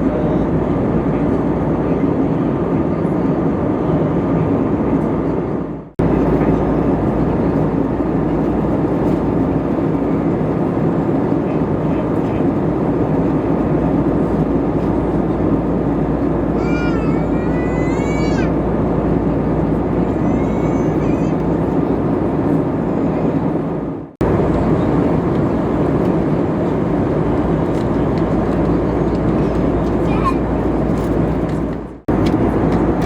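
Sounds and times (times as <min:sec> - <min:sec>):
airliner cabin engine noise: 0:00.0 - 0:33.0.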